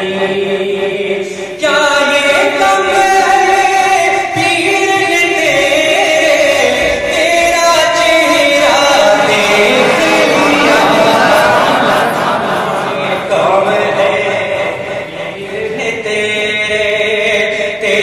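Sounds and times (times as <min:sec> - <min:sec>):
man chanting unaccompanied: 0:00.0 - 0:11.9, 0:12.6 - 0:18.0.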